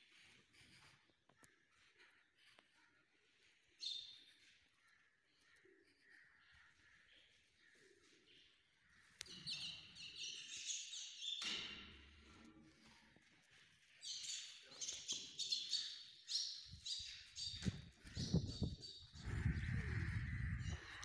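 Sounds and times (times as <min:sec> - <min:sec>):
small birds chirping: 0:00.1 - 0:11.6, 0:12.9 - 0:21.0.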